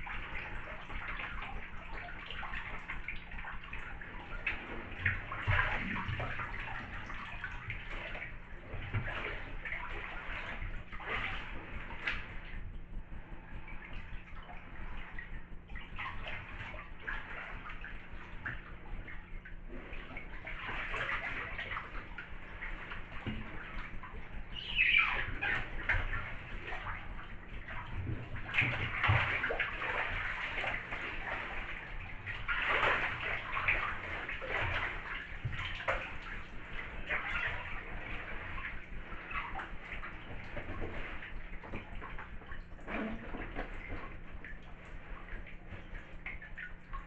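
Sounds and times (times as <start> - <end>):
bathwater sloshing and splashing: 0.0 - 47.0.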